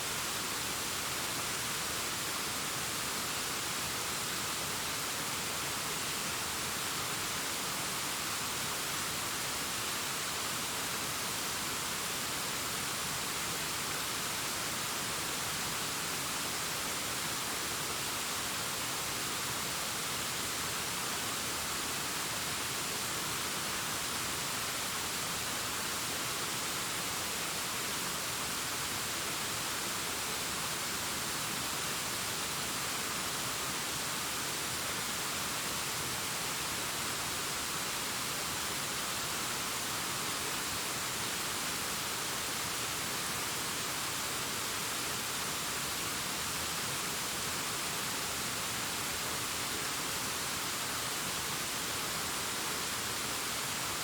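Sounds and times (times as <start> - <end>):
distant waterfall rushing: 0.0 - 54.0.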